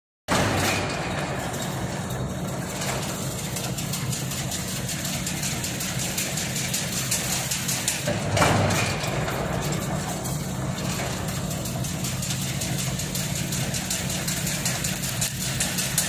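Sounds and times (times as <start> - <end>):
fast clicking of mechanism: 0.3 - 16.0
weaving machine motor hum: 0.3 - 16.0.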